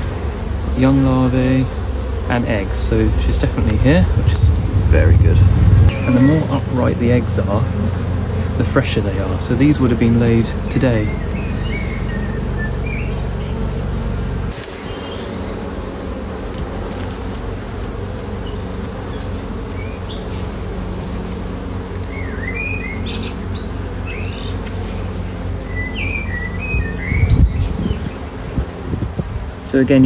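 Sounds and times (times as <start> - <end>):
honeybees buzzing: 0.0 - 30.0
birds chirping: 0.3 - 16.2, 18.2 - 29.0.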